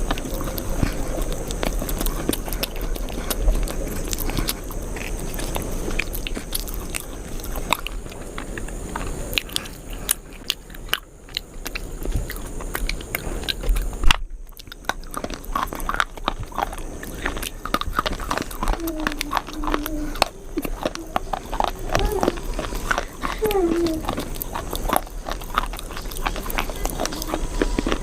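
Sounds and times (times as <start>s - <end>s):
person chewing crisp food: 0.0s - 28.0s.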